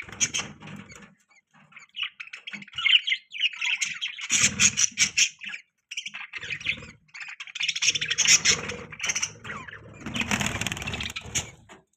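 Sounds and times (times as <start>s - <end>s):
budgerigars chirping: 0.0s - 11.7s.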